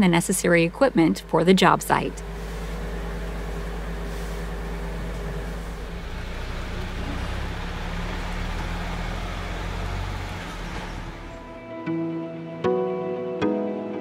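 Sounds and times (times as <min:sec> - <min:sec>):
truck engine running: 0:00.0 - 0:11.6.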